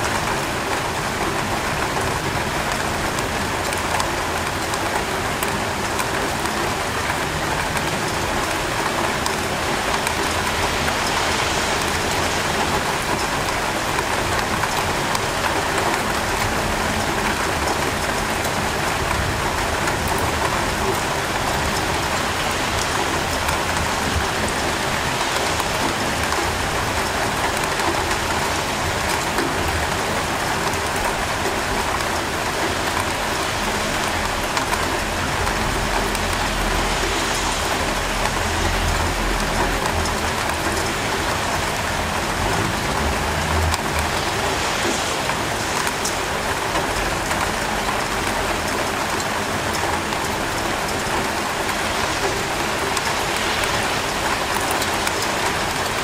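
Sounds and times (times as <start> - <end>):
steady rain: 0.0 - 56.0
traffic rumble: 6.8 - 55.8.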